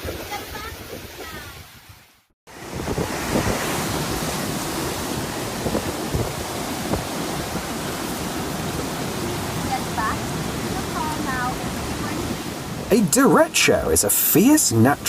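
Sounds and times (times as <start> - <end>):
wind buffeting microphone: 0.0 - 13.0
wind gusting hard: 0.0 - 13.1.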